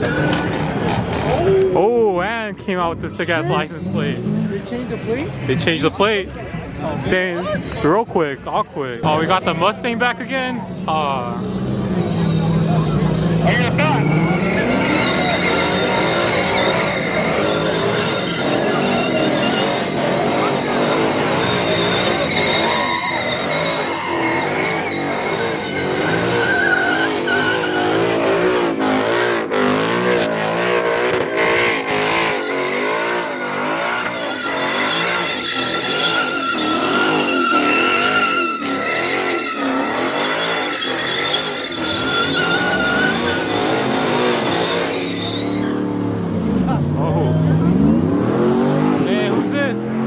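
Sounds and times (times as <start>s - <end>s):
car engine revving: 0.0s - 1.8s, 10.6s - 50.0s
tires squealing: 0.0s - 50.0s.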